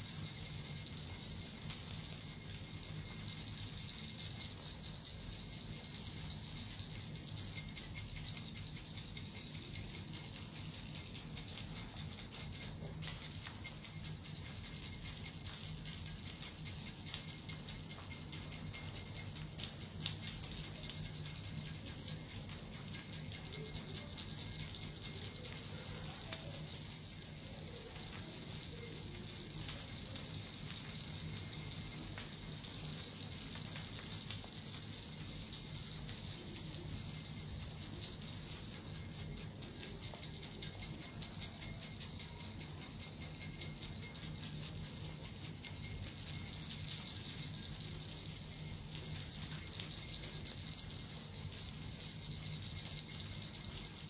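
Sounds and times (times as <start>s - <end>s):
bells and metal rattle jingling: 0.0s - 54.0s.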